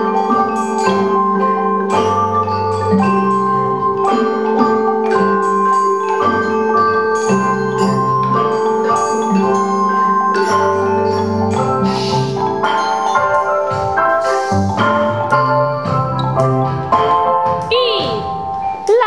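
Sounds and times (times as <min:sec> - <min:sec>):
wooden xylophones and metallophones: 0:00.0 - 0:19.0.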